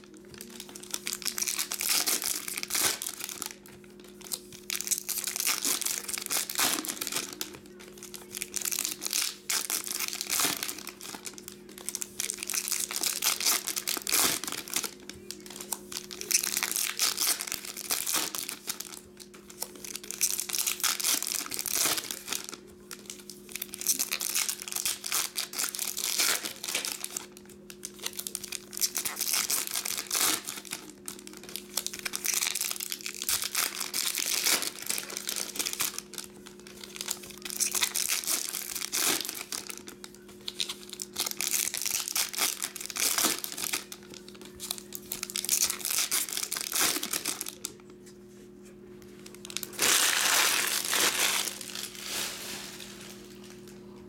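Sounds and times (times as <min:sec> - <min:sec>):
foil wrappers crinkling and tearing: 0:00.0 - 0:47.9, 0:49.2 - 0:53.8
faint steady hum: 0:00.0 - 0:54.0.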